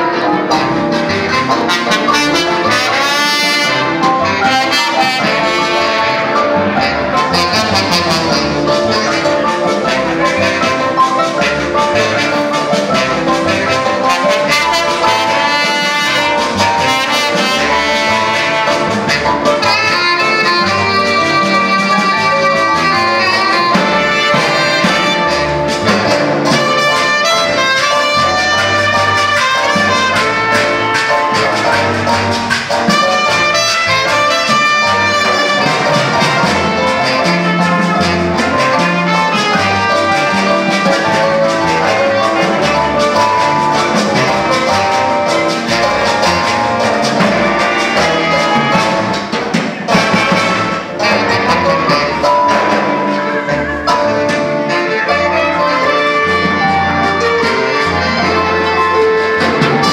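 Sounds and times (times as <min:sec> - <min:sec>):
live orchestra playing: 0:00.0 - 0:59.9.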